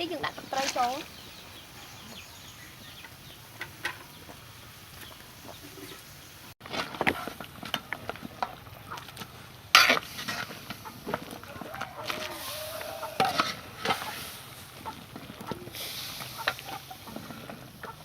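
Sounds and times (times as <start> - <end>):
chickens clucking: 0.0 - 6.5, 8.5 - 9.3, 10.3 - 18.0.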